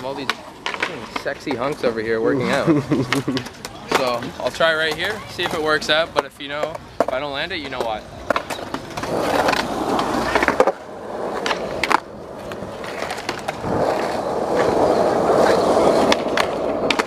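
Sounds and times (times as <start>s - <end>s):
skateboard clacks: 0.0s - 2.0s, 3.0s - 17.0s
skateboard wheels rolling: 0.0s - 17.0s.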